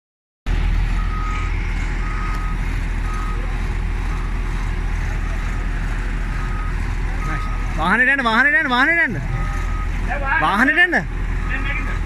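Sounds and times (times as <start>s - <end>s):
diesel engine running under load: 0.5s - 12.0s
reversing alarm beeping: 0.9s - 12.0s.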